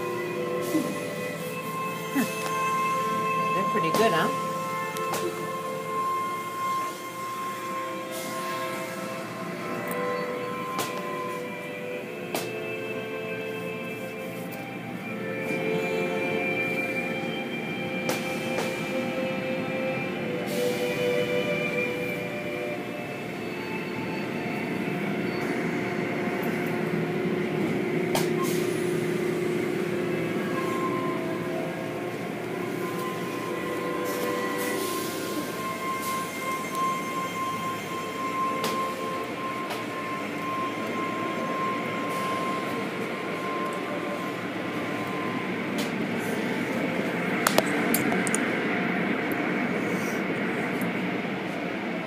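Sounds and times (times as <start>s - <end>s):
machinery hum: 0.0s - 52.0s
steady high whine: 0.0s - 52.0s.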